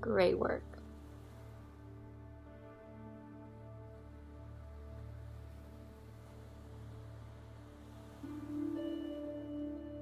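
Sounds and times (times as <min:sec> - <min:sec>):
slow new-age music: 0:00.0 - 0:10.0.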